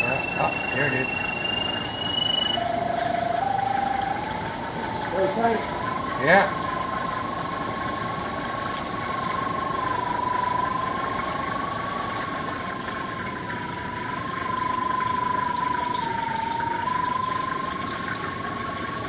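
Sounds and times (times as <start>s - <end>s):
background hum: 0.0s - 19.0s
pipe locator steady tone: 0.0s - 19.0s.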